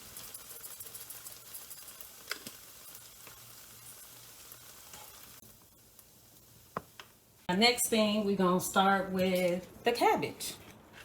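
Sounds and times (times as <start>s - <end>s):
vegetables sizzling in a pot: 0.0s - 8.8s.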